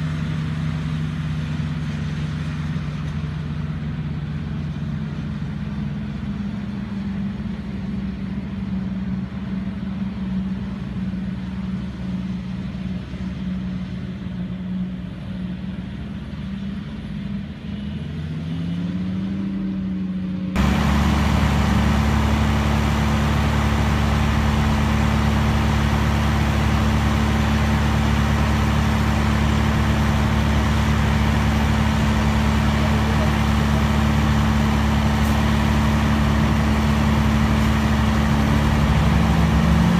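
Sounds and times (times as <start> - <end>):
tractor engine running close: 0.0 - 18.4, 19.0 - 39.9
harvester and tractor engines: 0.0 - 39.9.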